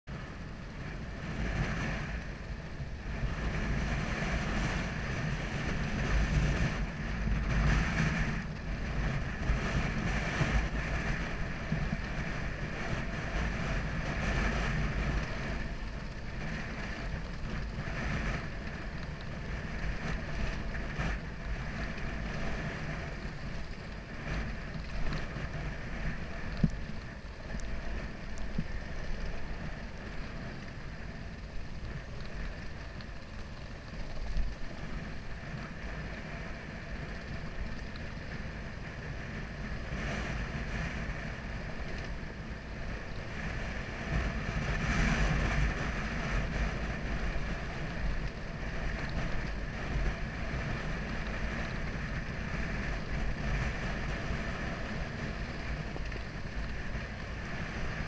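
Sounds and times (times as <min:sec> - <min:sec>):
motorcycle engine on dirt track: 0:00.0 - 0:58.0
wind rumble on microphone: 0:00.0 - 0:58.0.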